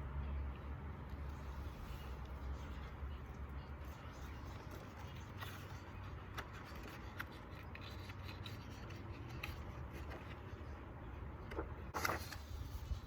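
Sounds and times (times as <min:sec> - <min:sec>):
low steady hum: 0:00.0 - 0:13.0
paper book being handled: 0:01.0 - 0:10.8, 0:11.4 - 0:13.0.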